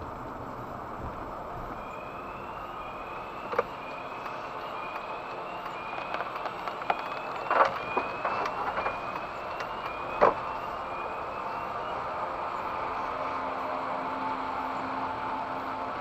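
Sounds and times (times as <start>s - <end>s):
car road noise: 0.0s - 16.0s.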